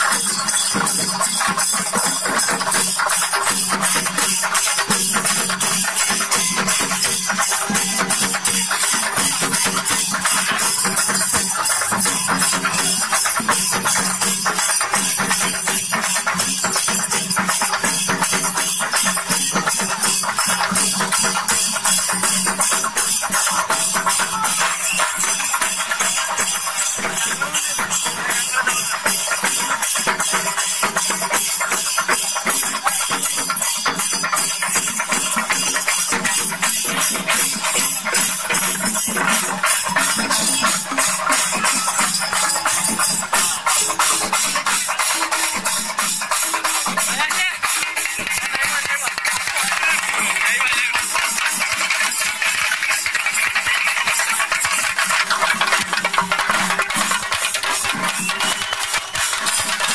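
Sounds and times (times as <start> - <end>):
cymbals: 0.0 - 59.9
drums playing fast rhythm: 0.0 - 59.9.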